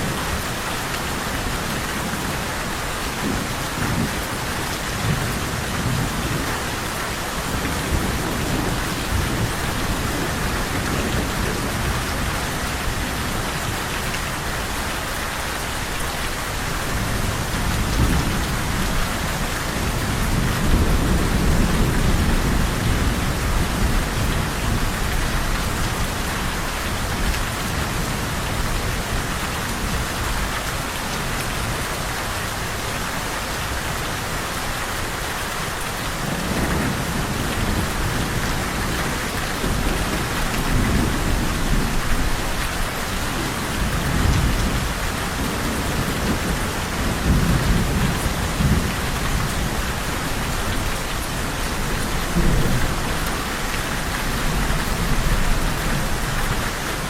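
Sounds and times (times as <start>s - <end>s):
rolling thunder rumbling: 0.0s - 14.8s, 15.7s - 32.6s, 34.9s - 57.0s
heavy rain falling: 0.0s - 57.0s.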